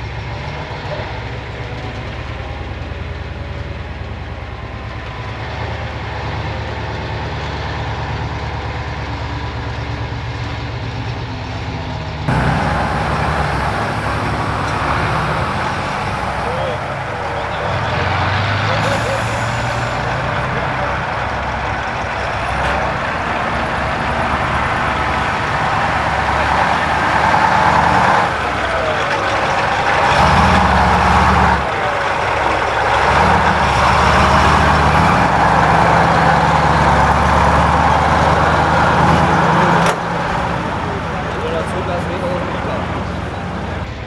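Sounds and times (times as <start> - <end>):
diesel truck engine under load: 0.0 - 44.0.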